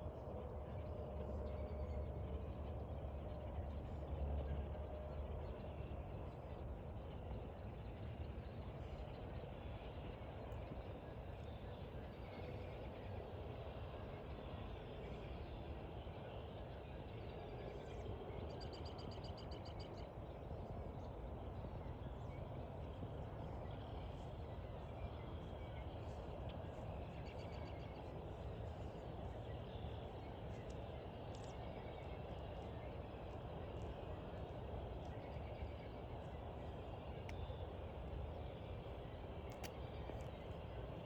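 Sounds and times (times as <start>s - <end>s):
low background rumble: 0.0s - 41.0s.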